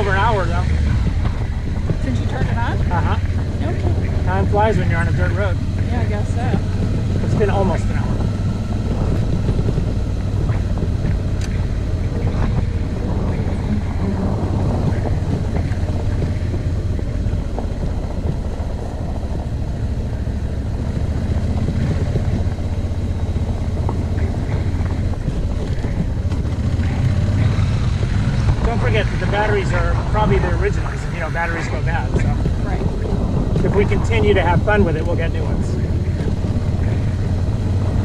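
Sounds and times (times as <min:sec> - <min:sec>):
motorcycle engine running: 0:00.0 - 0:38.0
wind noise: 0:00.0 - 0:38.0.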